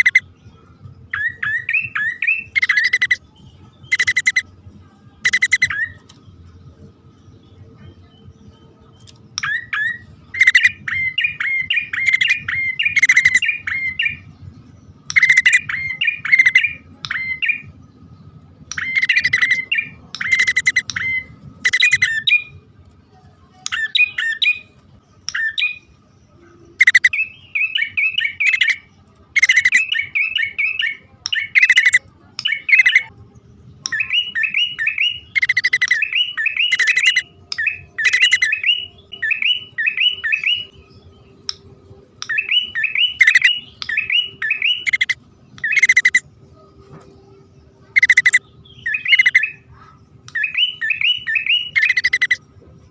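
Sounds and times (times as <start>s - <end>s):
birds chirping rapidly: 0.0s - 22.8s, 23.6s - 52.9s.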